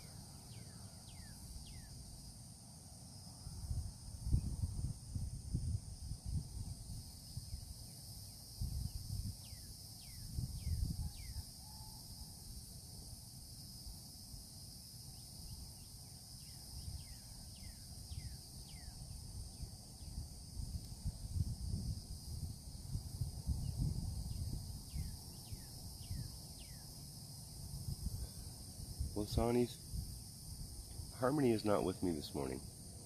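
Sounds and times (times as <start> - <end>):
insect chorus: 0.0 - 33.0.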